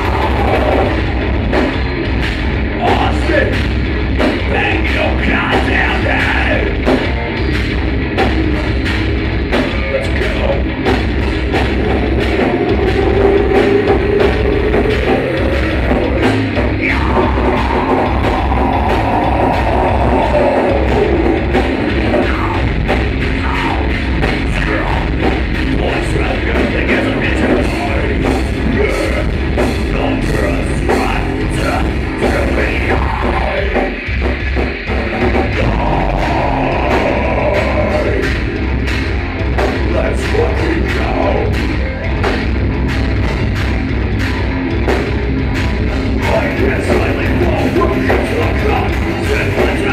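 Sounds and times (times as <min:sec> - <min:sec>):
heavy metal band playing: 0:00.0 - 0:49.9.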